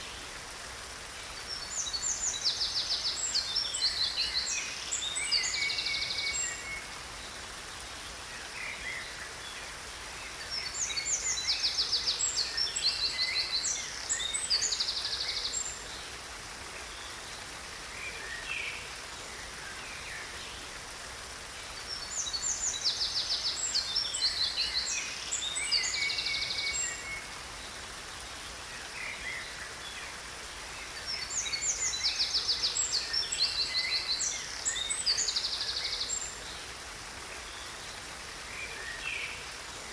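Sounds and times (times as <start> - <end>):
songbirds chirping and trilling: 0.0 - 39.9
waterfall hiss: 0.0 - 39.9.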